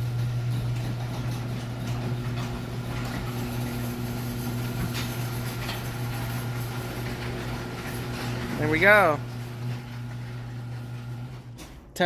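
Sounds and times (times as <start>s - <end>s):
garage door opener motor humming: 0.0s - 12.0s.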